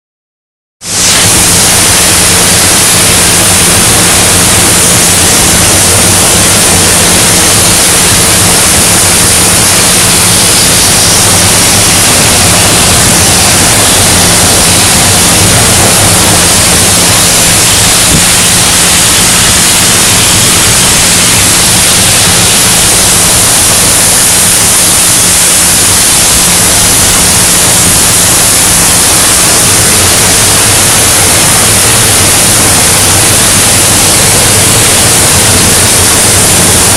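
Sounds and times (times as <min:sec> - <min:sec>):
cutting torch hissing: 0:00.8 - 0:36.9.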